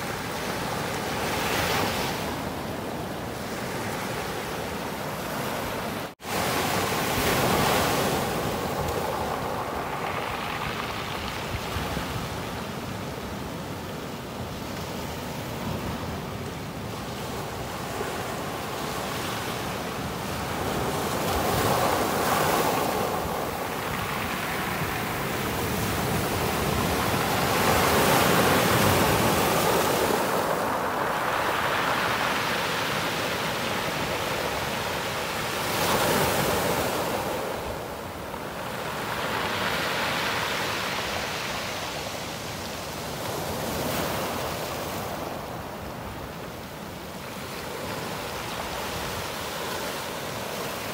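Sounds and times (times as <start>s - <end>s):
small waves breaking on beach: 0.0s - 50.9s.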